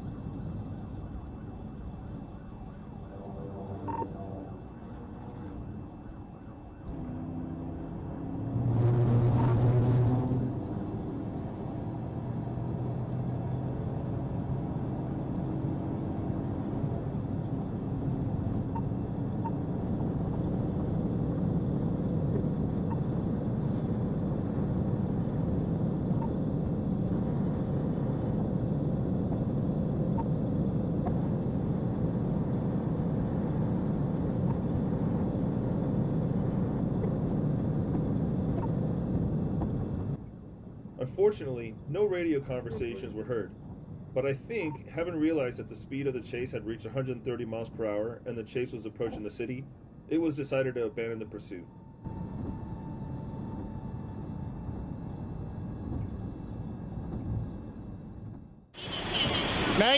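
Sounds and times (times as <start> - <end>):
road noise: 0.0 - 59.9
vehicle engine at high speed: 0.0 - 59.9.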